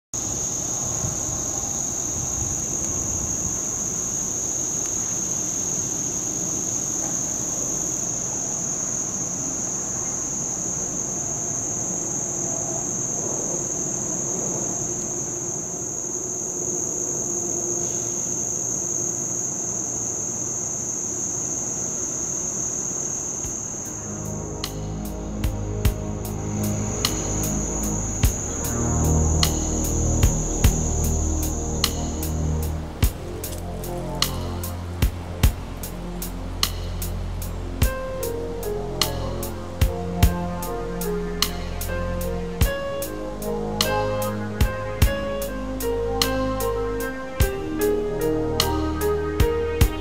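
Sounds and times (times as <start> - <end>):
cicadas buzzing: 0.2 - 50.0.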